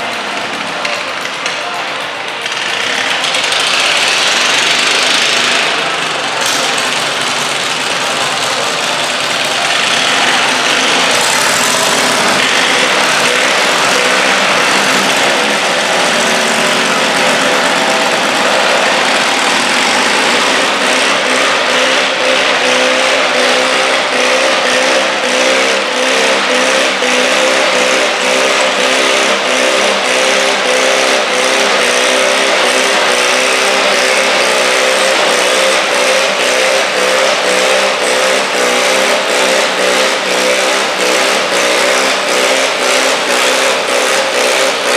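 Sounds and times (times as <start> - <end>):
tractor engine under load: 0.0 - 44.9.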